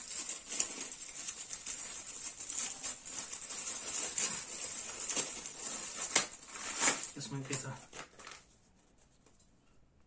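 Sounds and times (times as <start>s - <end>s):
plastic packet crinkling: 0.0s - 8.6s.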